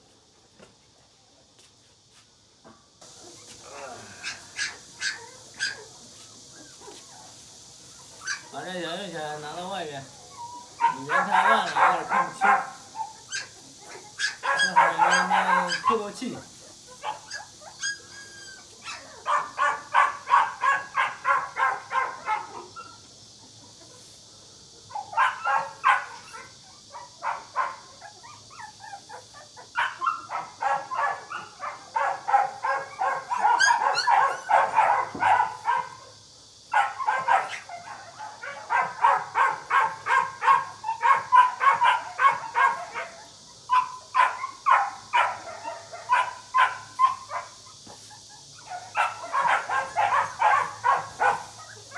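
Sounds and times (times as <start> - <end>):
puppies yelping: 3.0 - 24.1, 24.9 - 36.1, 36.7 - 51.9.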